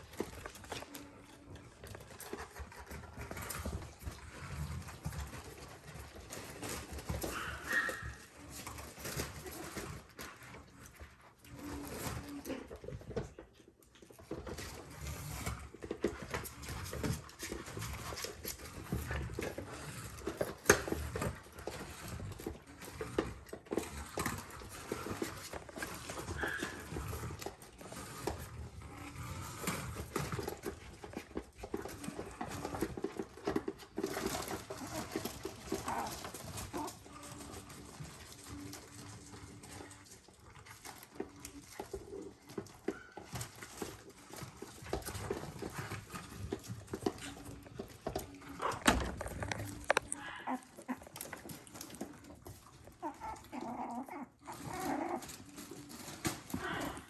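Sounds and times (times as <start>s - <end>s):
claws and toy clicking: 0.0s - 57.0s
puppies pawing and scrabbling: 0.0s - 57.0s.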